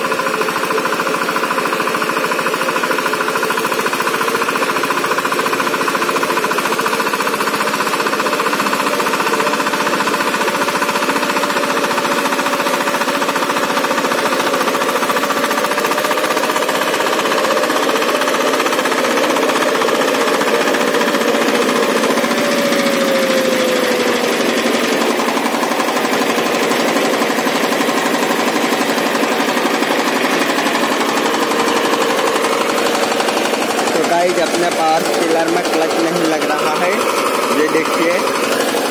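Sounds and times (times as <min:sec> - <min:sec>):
diesel engine clattering: 0:00.0 - 0:38.9.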